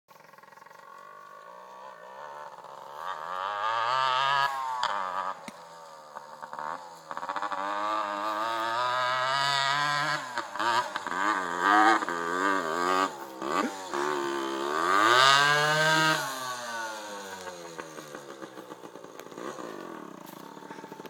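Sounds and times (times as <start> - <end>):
dirt bike engine revving: 0.2 - 21.0.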